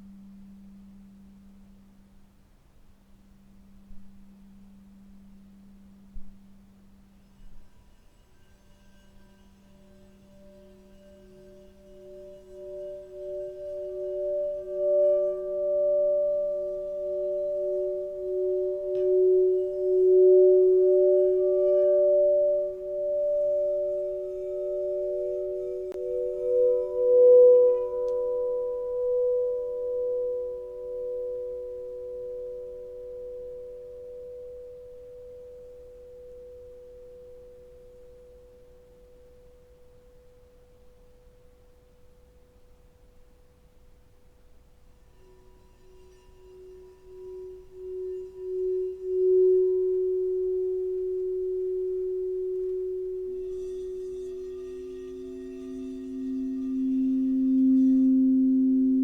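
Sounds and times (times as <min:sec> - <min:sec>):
singing bowls ringing: 0:03.6 - 0:42.6, 0:44.9 - 0:59.0.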